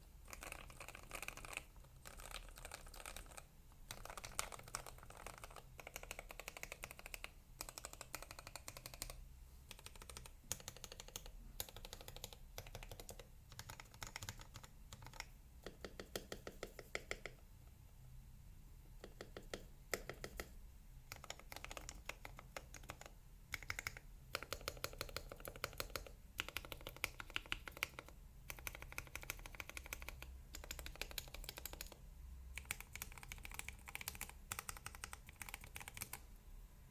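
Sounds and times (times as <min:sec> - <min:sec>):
mechanical keyboard typing: 0:00.2 - 0:17.4, 0:19.0 - 0:36.2.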